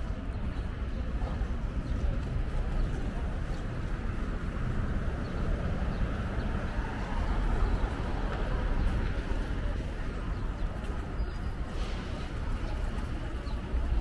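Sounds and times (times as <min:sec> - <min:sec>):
street bustle: 0:00.0 - 0:14.0
traffic rumble: 0:00.0 - 0:14.0.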